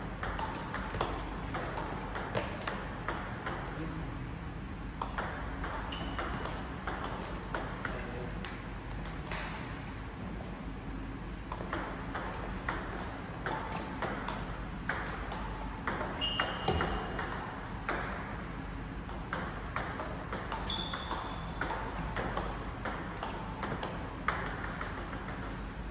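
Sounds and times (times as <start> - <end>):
ping pong ball clicking: 0.2 - 3.7, 5.0 - 9.6, 11.5 - 18.2, 19.1 - 25.6.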